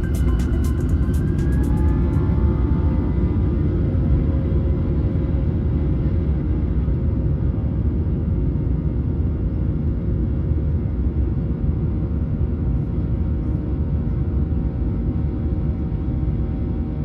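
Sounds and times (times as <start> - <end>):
aircraft engines in cabin: 0.0 - 17.0.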